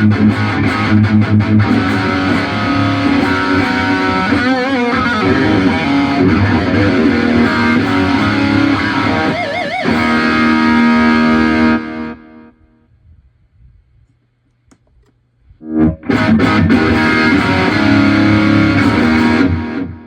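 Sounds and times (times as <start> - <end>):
distorted electric guitar: 0.0 - 12.7, 15.6 - 20.0.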